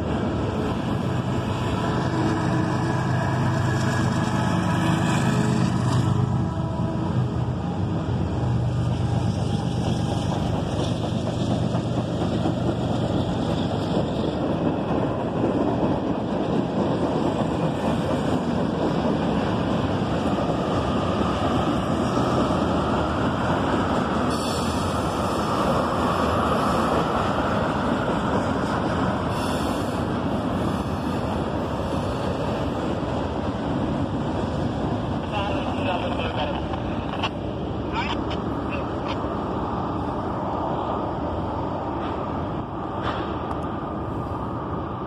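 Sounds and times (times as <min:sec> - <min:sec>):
diesel locomotive drone: 0:00.0 - 0:45.0
freight train wheels rumbling: 0:00.0 - 0:45.0.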